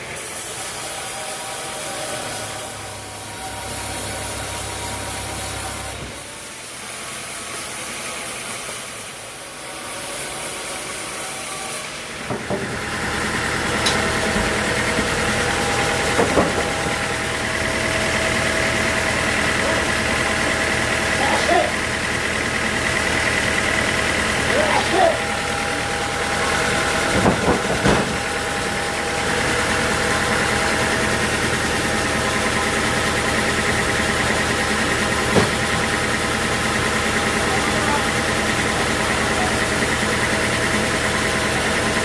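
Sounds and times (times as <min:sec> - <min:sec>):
sawmill machinery humming: 0:00.0 - 0:42.0.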